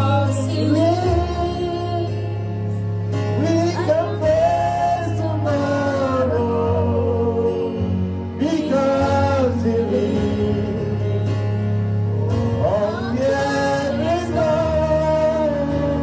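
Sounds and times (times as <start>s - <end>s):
low instrumental accompaniment: 0.0s - 16.0s.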